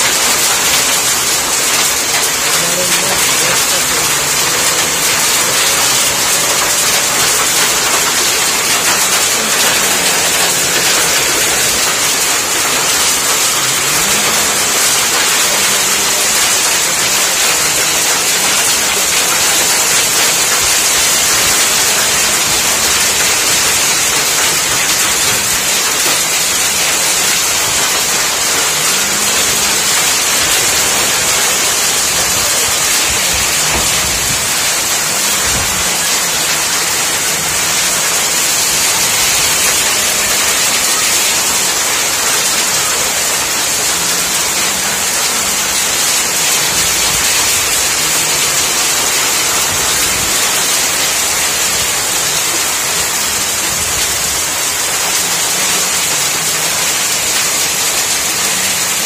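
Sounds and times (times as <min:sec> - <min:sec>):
rain and hail falling: 0:00.0 - 0:59.0.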